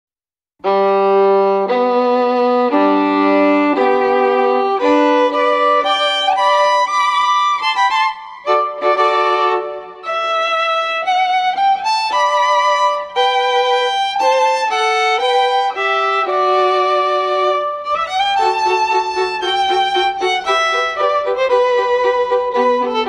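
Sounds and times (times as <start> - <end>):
slow violin melody: 0.6 - 23.0.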